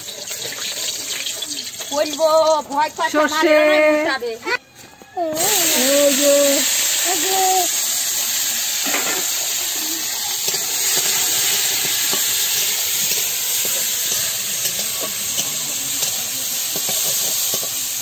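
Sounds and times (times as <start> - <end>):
tomatoes sizzling in hot oil: 0.0 - 4.2, 5.3 - 18.0.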